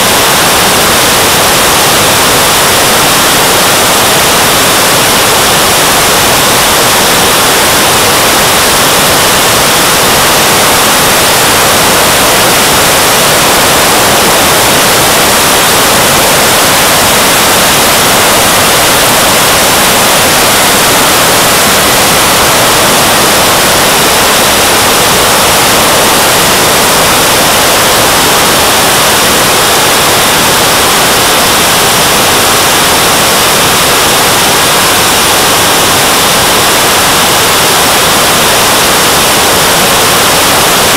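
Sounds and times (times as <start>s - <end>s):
jet turbine and rushing air hiss: 0.0s - 40.9s.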